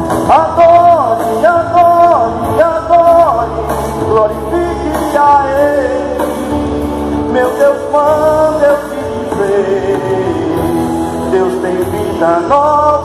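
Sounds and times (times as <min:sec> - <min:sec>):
instrumental backing: 0:00.0 - 0:13.0
man singing into a microphone: 0:00.0 - 0:13.0.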